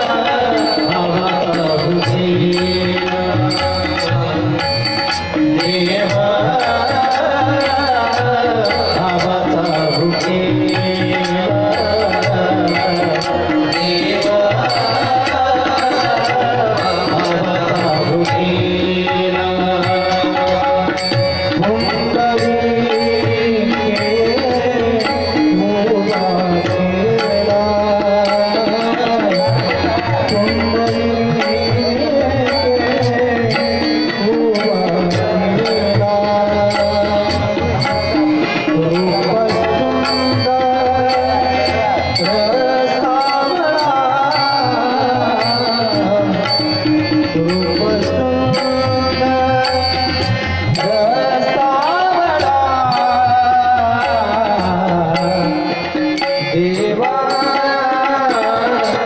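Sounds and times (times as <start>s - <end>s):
harmonium melody: 0.0s - 59.0s
tabla drum rhythm: 0.0s - 59.0s.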